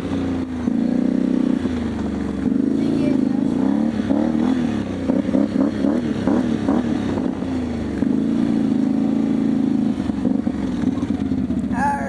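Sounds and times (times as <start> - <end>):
riding lawn mower engine running: 0.0 - 12.0.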